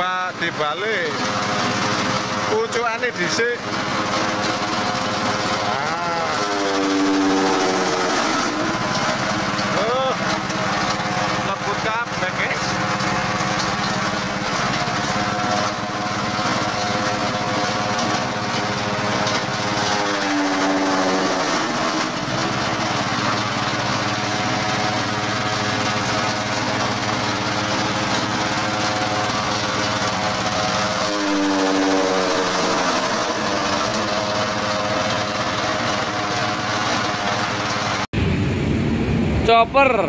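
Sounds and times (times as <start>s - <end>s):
small engine running steadily: 0.0s - 39.0s.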